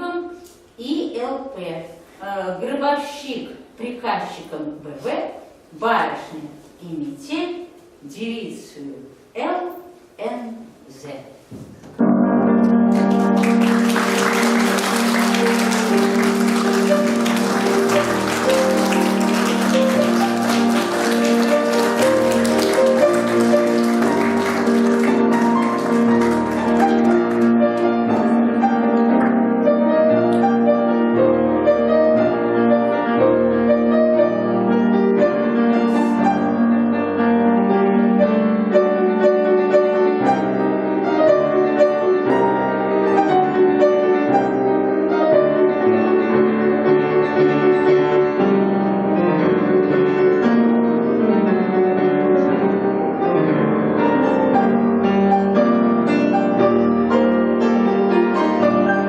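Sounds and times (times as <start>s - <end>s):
classical piano piece: 11.4s - 59.0s.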